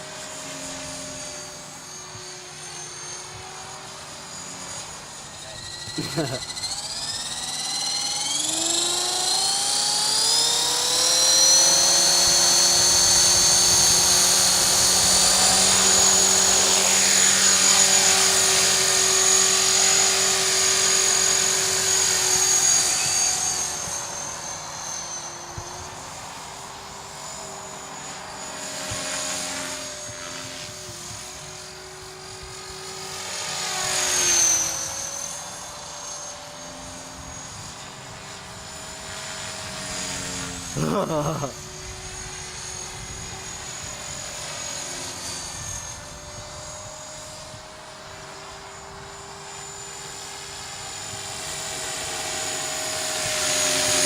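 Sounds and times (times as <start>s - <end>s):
rc helicopter motor and rotor whine: 0.0s - 54.0s.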